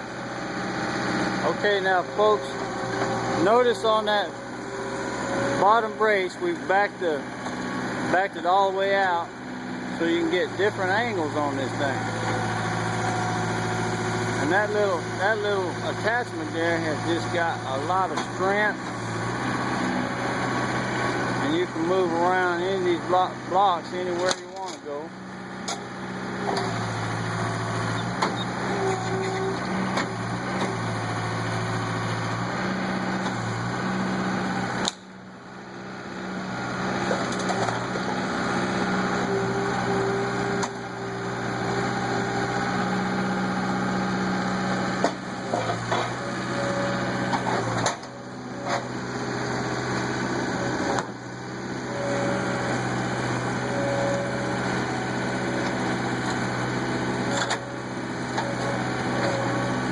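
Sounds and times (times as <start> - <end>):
skid steer engine under load: 0.0 - 59.9.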